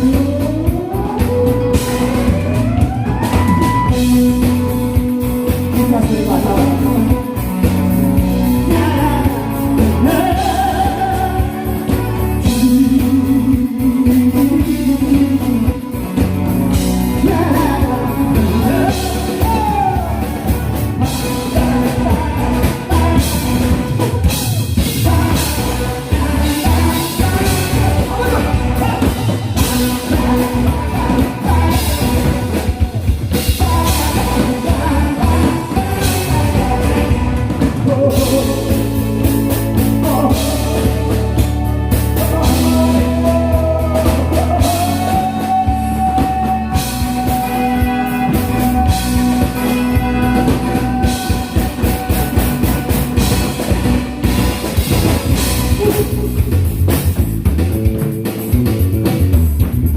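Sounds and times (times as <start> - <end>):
bass beat: 0.0 - 59.9
drum kit: 0.0 - 59.9
live band music: 0.0 - 59.9.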